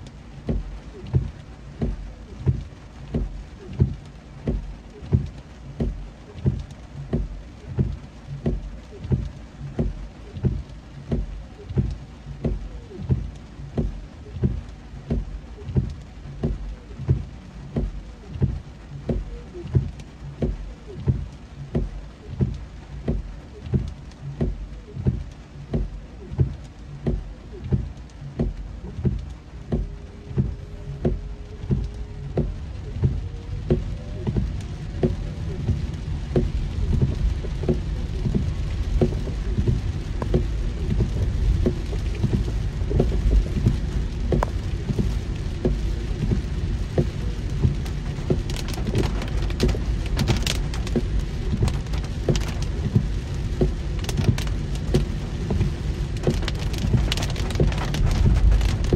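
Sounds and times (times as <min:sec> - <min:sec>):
car rumbling on the road: 0:00.0 - 0:58.9
heavy rain on a car: 0:00.0 - 0:58.9.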